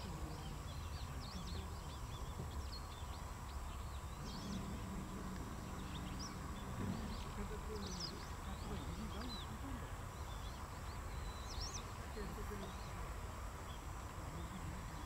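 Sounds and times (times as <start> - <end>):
birds chirping: 0.0 - 15.0
low background rumble: 0.0 - 15.0.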